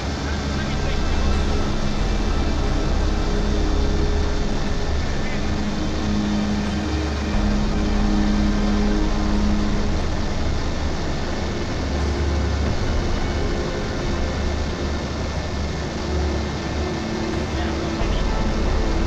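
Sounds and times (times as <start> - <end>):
aircraft engine rushing hum: 0.0 - 19.0.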